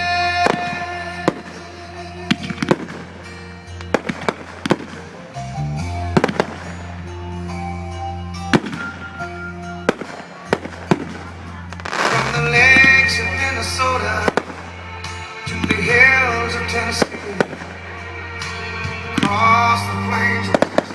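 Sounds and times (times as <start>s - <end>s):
song playing: 0.0s - 20.9s
fireworks sharp bangs: 0.3s - 5.5s, 6.1s - 7.2s, 8.4s - 16.2s, 16.8s - 20.9s.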